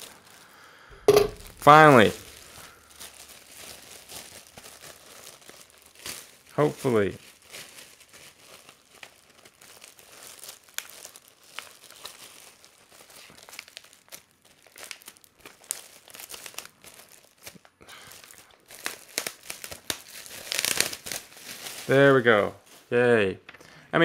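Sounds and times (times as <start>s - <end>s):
plastic wrapping crinkling and tearing: 0.0s - 22.9s.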